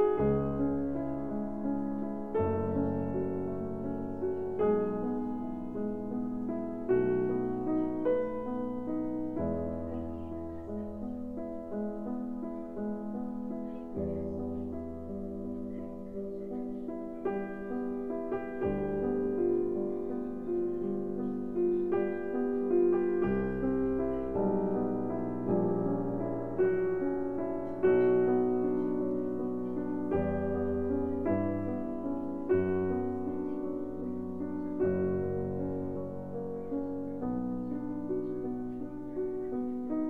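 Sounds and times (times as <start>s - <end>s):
piano music: 0.0s - 40.0s.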